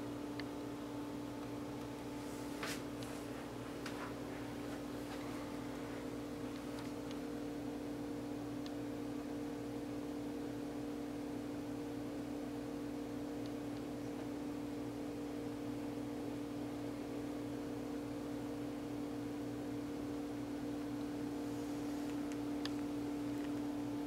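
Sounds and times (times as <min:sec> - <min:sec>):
steady tonal hum: 0:00.0 - 0:24.0.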